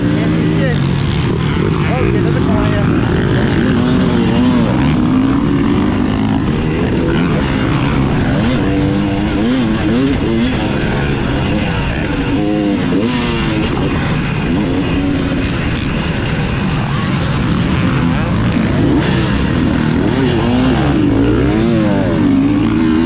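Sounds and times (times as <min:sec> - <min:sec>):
dirt bike engine revving: 0:00.0 - 0:23.0
steady rushing noise: 0:00.0 - 0:23.0.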